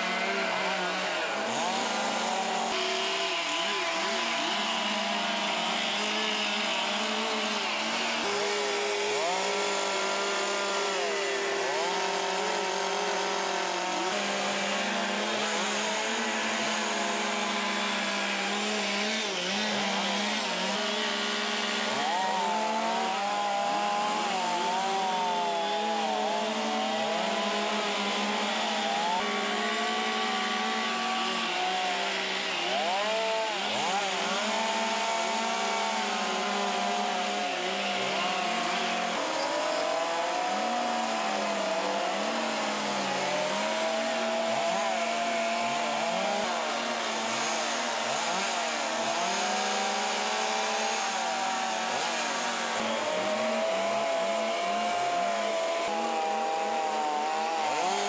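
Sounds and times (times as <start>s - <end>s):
chainsaws cutting wood: 0.0s - 58.0s.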